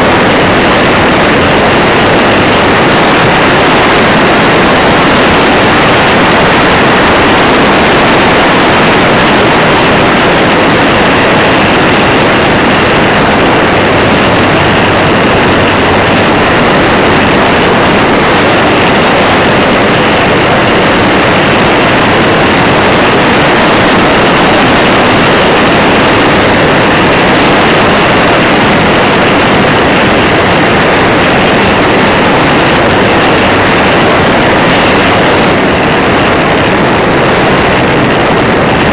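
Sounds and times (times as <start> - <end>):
model airplane motor and propeller: 0.0 - 38.9
wind rush: 0.0 - 38.9.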